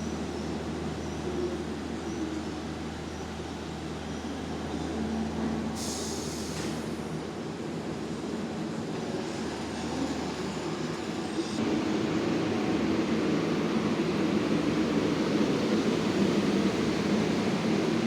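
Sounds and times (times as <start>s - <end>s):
subway train low hum: 0.0s - 18.0s.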